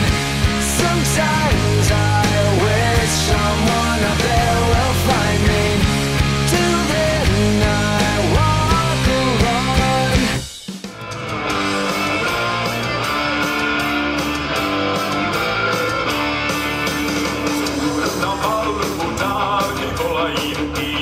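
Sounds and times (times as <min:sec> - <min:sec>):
guitar-led music: 0:00.0 - 0:21.0
rock song with singing: 0:00.0 - 0:21.0.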